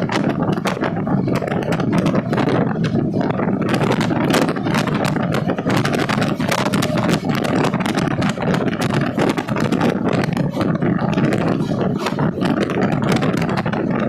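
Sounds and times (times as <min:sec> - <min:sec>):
low train rumble: 0:00.0 - 0:14.0.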